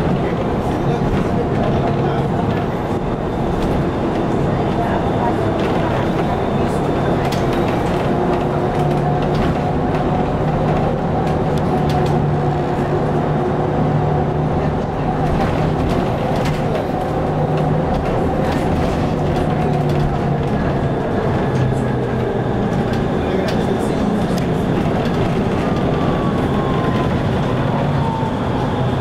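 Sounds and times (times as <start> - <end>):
road and tyre noise: 0.0 - 29.0.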